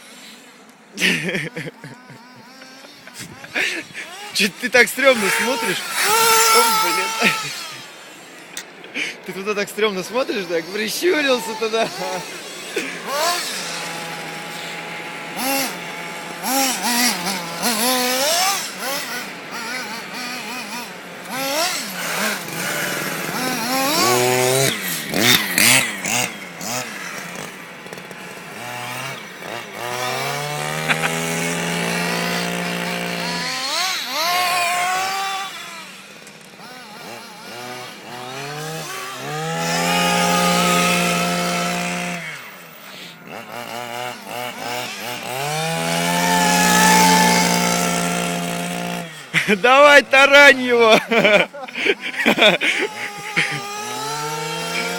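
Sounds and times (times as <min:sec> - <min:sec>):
toy car electric motors whining: 0:00.0 - 0:54.9.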